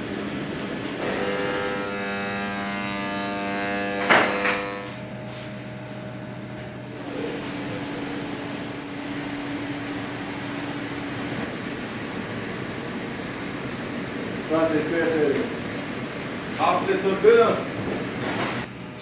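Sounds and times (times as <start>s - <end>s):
steady machine tone: 0.0s - 17.6s
machinery hum: 0.0s - 19.0s
ventilation fans: 0.0s - 19.0s.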